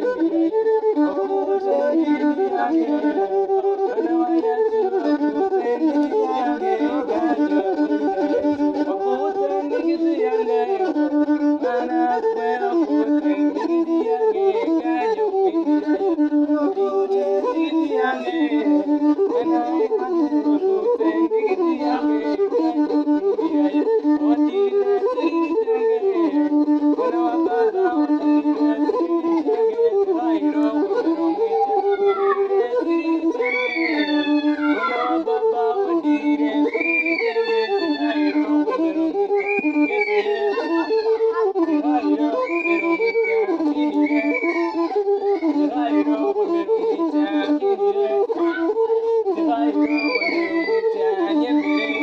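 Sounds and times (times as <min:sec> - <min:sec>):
bowed one-string fiddle melody: 0:00.0 - 0:52.0.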